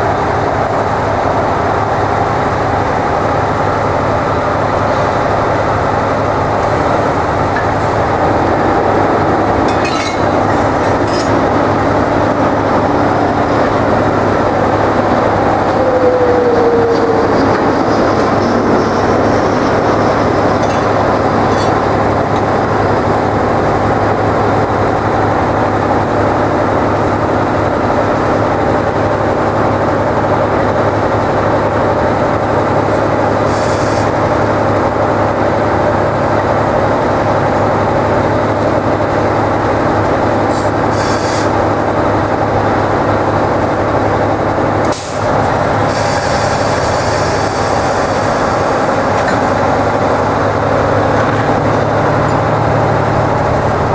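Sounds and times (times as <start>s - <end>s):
diesel locomotive idling: 0.0s - 53.9s.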